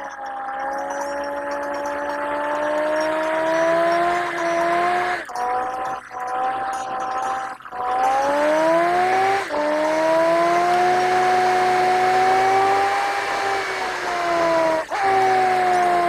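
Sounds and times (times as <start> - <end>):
car engine pulling under load: 0.2 - 5.3, 7.8 - 16.0.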